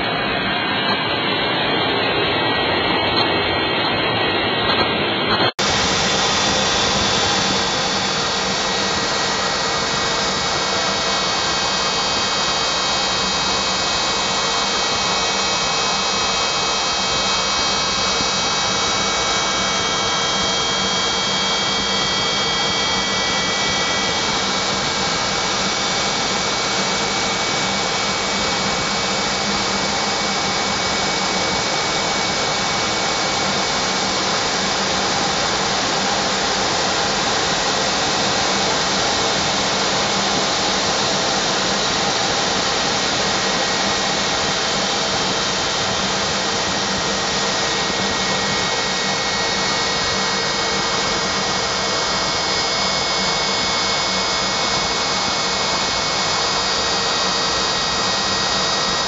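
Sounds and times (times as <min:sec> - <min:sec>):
jet engine roar with turbine whine: 0:00.0 - 0:59.0.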